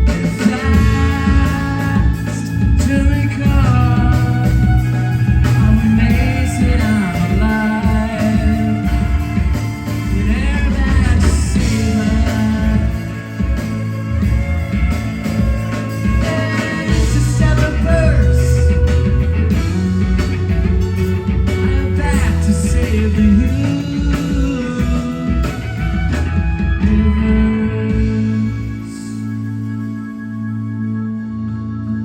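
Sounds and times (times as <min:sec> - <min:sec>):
lead singer singing: 0:00.0 - 0:29.6
rock band playing: 0:00.0 - 0:32.0.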